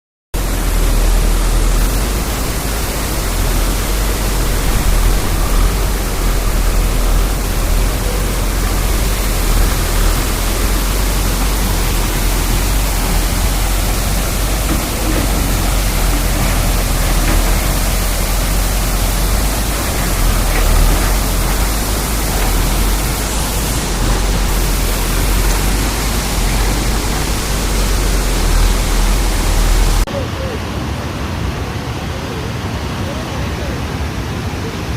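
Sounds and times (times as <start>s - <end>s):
heavy rain pouring: 0.4s - 34.9s.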